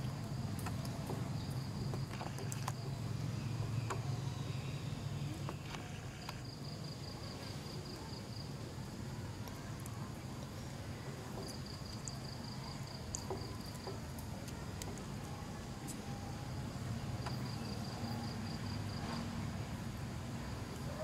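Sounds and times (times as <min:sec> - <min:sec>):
low steady background rumble: 0:00.0 - 0:21.0.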